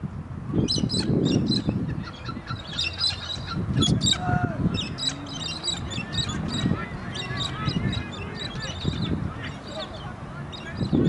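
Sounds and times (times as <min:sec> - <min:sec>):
birds chirping and squawking: 0:00.6 - 0:11.0.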